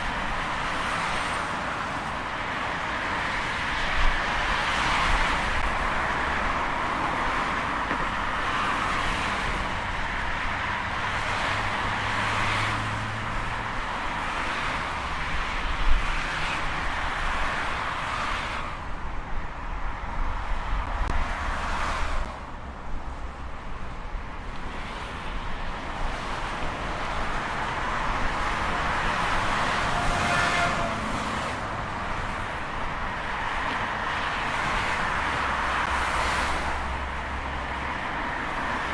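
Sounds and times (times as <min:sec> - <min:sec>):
highway traffic rushing: 0:00.0 - 0:38.9
passing vehicle whine: 0:00.0 - 0:38.9.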